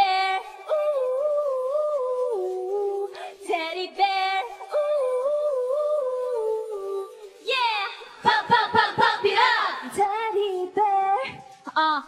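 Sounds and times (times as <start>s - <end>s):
women singing wordless melody: 0.0s - 12.0s.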